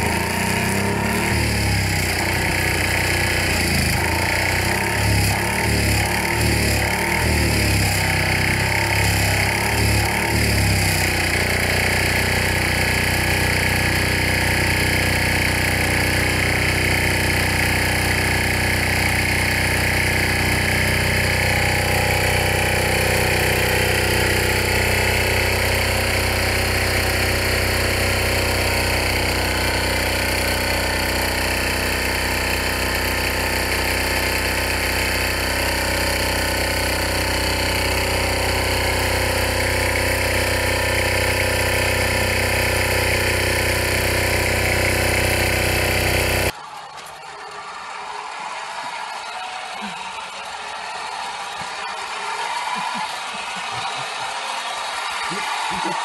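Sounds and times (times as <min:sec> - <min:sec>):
small engine running: 0:00.0 - 0:46.7, 0:49.7 - 0:56.0.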